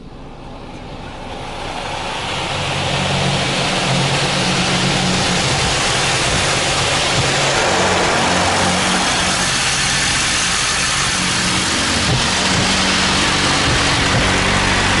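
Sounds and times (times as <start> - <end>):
low motor hum: 0.0 - 15.0
car wash rushing hiss: 0.4 - 15.0.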